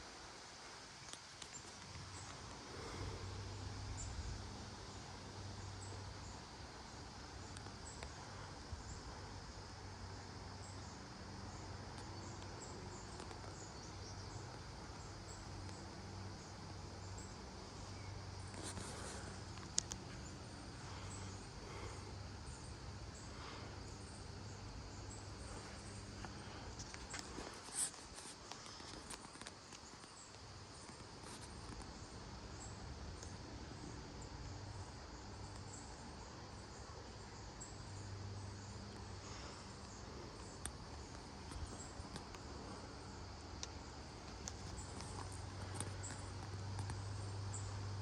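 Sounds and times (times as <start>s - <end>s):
insects chirping: 0.0s - 48.0s.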